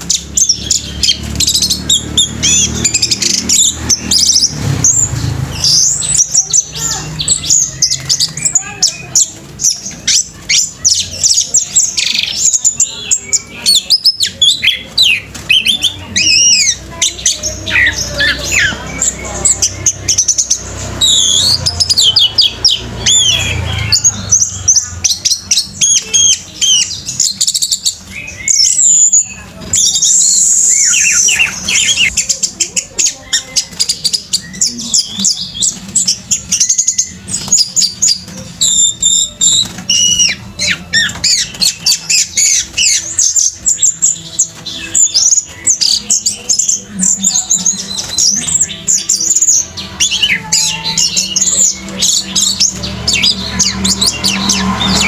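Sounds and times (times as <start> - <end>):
thrush singing: 0.0 - 55.0.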